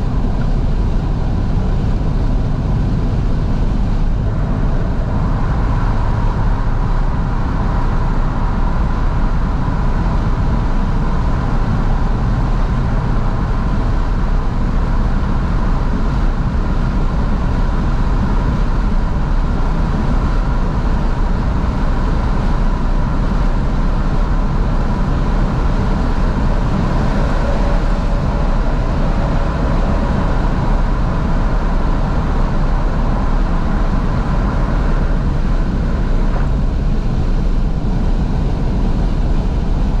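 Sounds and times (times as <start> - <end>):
car engine running: 0.0 - 40.0
road and wind noise: 0.0 - 40.0.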